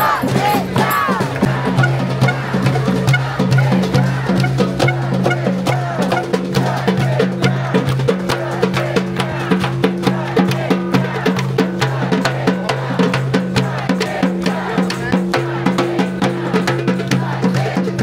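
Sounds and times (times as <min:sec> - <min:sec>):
music with clicking percussion beat: 0:00.0 - 0:18.0.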